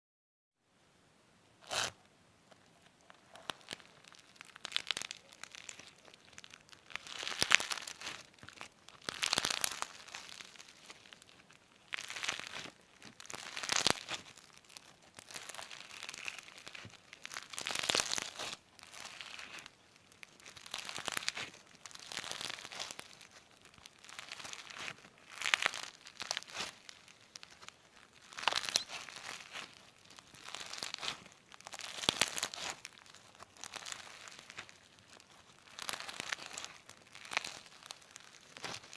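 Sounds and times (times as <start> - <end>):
slime squeezed crackling and popping: 2.6 - 38.9.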